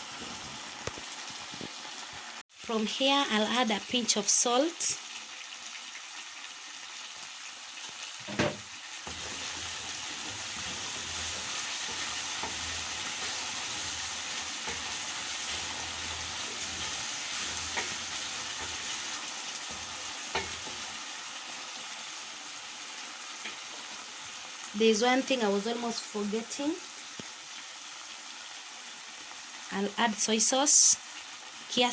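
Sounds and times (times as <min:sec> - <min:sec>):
vegetables sizzling in oil: 0:00.0 - 0:31.9.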